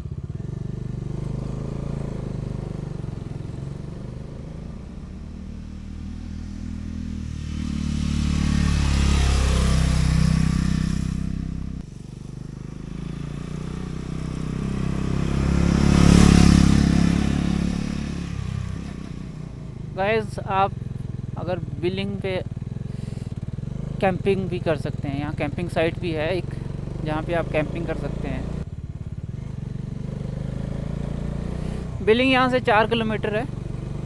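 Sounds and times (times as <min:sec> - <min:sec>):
motorcycle engine: 0:00.0 - 0:34.0
motorcycle passing by: 0:00.0 - 0:34.0.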